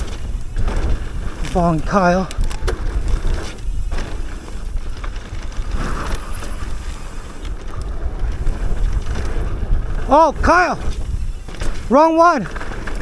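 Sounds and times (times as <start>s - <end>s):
bike clicks and rattles: 0.0s - 13.0s
wind rushing over microphone: 0.0s - 13.0s.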